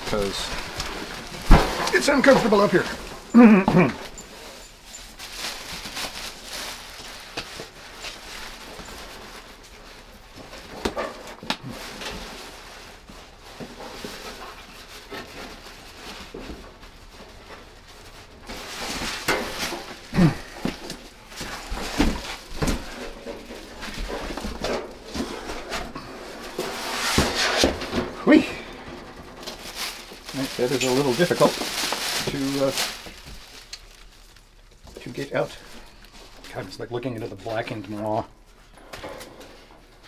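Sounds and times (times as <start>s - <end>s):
cardboard rustling and scraping: 0.0s - 36.8s.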